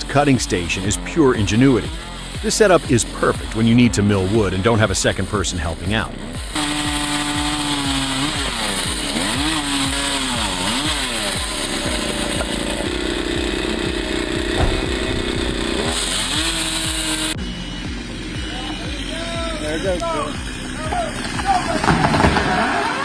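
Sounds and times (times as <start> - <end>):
chainsaw engine at high revs: 0.0 - 23.0.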